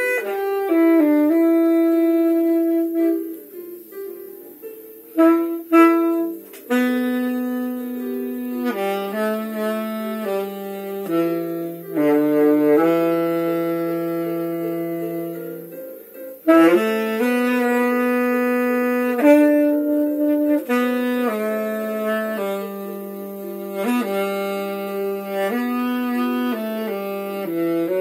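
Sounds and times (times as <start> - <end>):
solo saxophone melody: 0.0 - 28.0.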